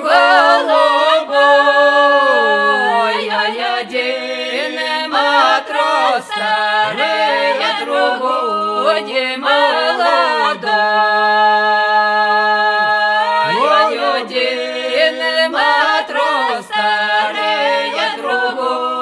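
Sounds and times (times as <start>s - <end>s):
a cappella folk singing in harmony: 0.0s - 19.0s.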